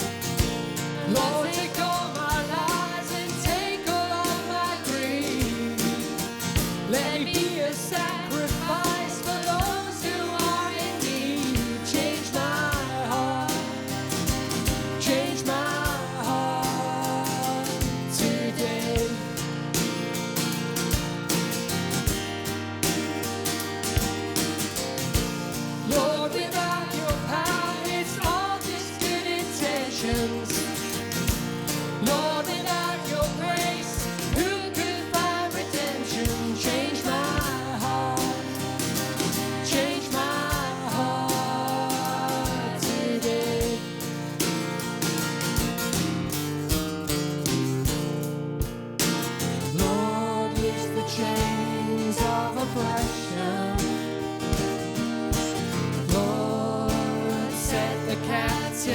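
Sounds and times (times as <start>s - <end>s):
acoustic guitar strumming chords: 0.0s - 58.9s.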